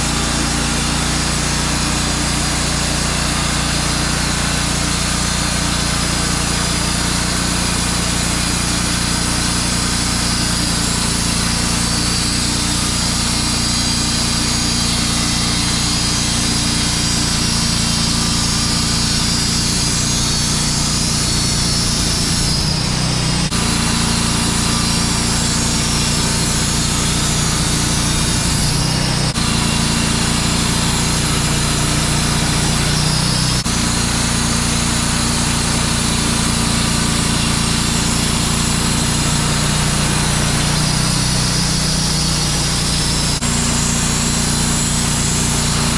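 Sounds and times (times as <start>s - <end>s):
band sawmill sawing log: 0.0s - 45.9s.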